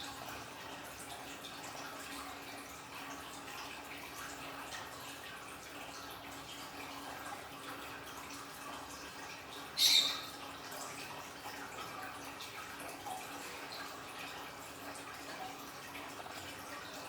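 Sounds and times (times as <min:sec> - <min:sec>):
aquarium waterfall trickling: 0:00.0 - 0:17.0
water drips: 0:00.0 - 0:17.0.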